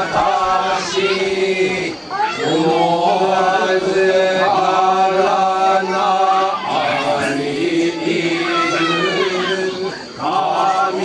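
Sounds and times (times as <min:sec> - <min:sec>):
person chanting a song: 0:00.0 - 0:11.0.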